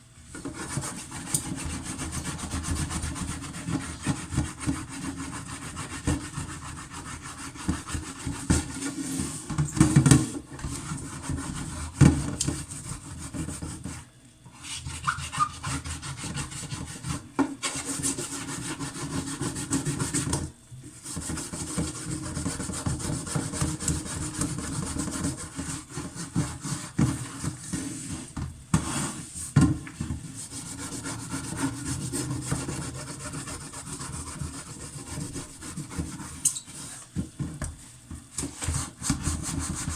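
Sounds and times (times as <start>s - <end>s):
pot being scrubbed: 0.3s - 37.6s, 38.4s - 39.9s.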